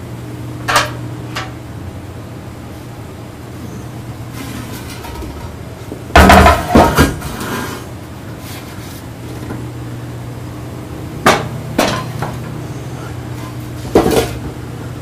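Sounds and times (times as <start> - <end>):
extraction fan humming: 0.0 - 15.0.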